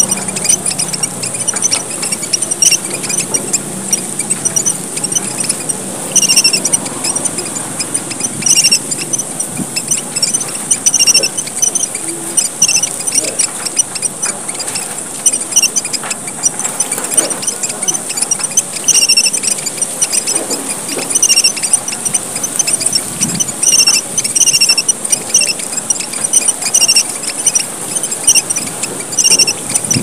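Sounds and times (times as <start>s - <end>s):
finch chirping: 0.0s - 30.0s
steady high hiss: 0.0s - 30.0s.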